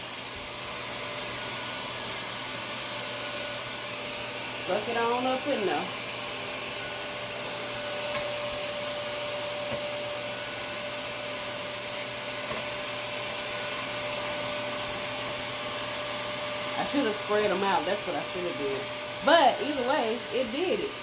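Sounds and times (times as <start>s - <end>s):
handheld vacuum cleaner running: 0.0s - 21.0s.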